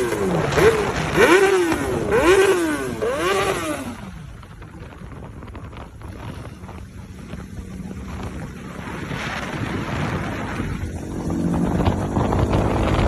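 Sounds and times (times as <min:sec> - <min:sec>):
motorcycle revving: 0:00.0 - 0:13.0
wind rumbling on microphone: 0:00.0 - 0:13.0.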